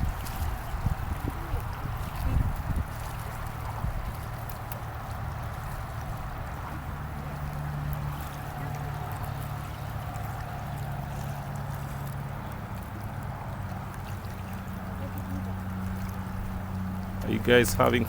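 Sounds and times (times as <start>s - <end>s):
low motor hum: 0.0s - 18.0s
river water rushing: 0.0s - 18.0s.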